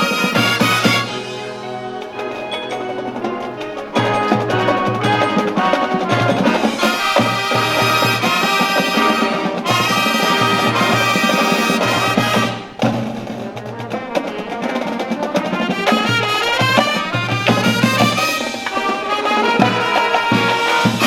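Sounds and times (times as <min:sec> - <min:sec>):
marching band with brass and drums: 0:00.0 - 0:21.0.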